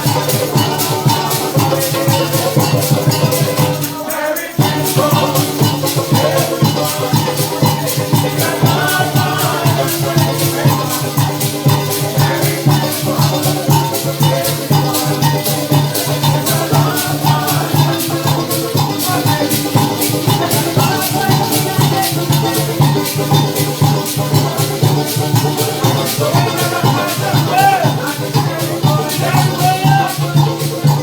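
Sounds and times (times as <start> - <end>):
maracas shaking: 0.0 - 31.0
pulsing bass line: 4.6 - 31.0.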